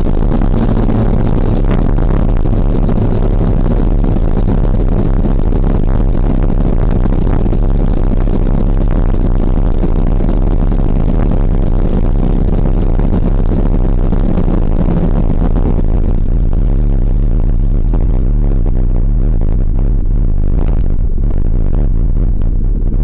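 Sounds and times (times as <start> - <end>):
motorcycle engine running: 0.0 - 23.0
wind on microphone: 0.0 - 23.0.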